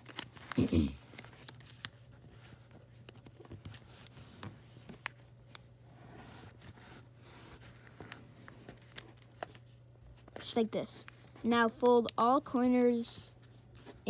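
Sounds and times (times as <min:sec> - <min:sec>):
faint steady hum: 0:00.0 - 0:14.0
paper rustling: 0:00.0 - 0:14.0.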